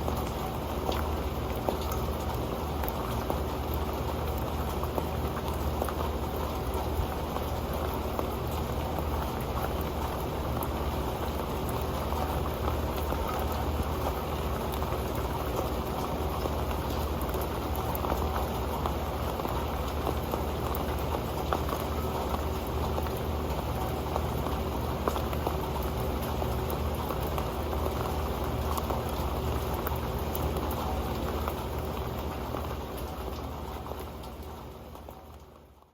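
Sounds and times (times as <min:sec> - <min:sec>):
rain patter on a metal pan: 0:00.0 - 0:35.9.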